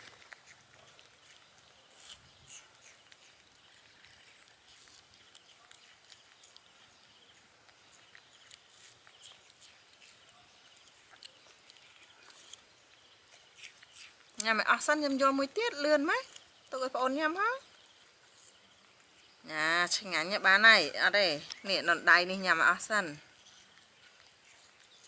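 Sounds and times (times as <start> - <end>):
monkeys chewing apple: 0.0 - 25.0.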